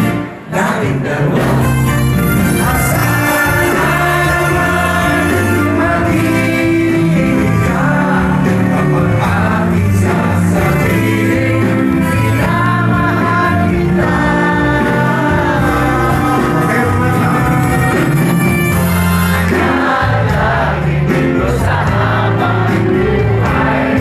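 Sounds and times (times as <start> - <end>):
live band playing: 0.0 - 24.0
lead vocals singing: 0.4 - 24.0.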